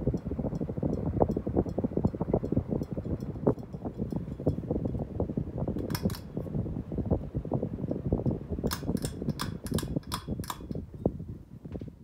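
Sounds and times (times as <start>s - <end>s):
ceiling fan motor rumbling: 0.0s - 12.0s.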